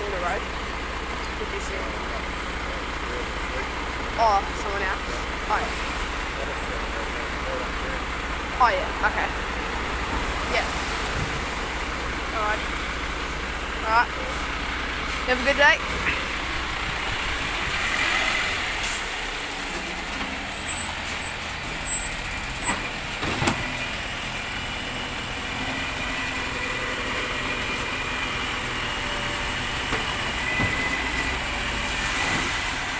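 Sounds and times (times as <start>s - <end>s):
road noise: 0.0s - 32.9s
truck engine running: 0.0s - 32.9s.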